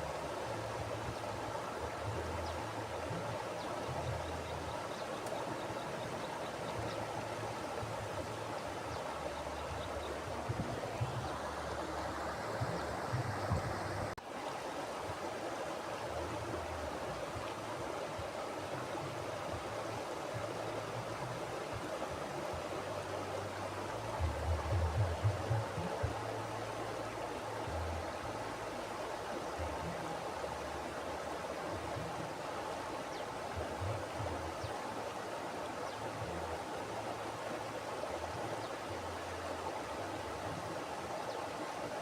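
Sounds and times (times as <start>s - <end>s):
river water rushing: 0.0s - 42.0s.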